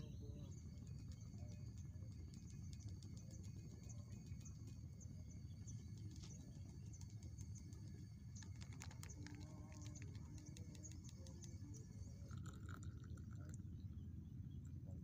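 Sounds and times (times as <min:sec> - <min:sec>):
faint high chirps: 0:00.0 - 0:15.0.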